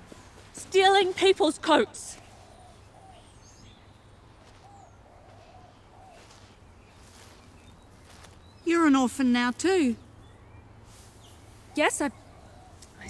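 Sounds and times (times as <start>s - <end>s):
distant birds calling: 0.0s - 13.0s.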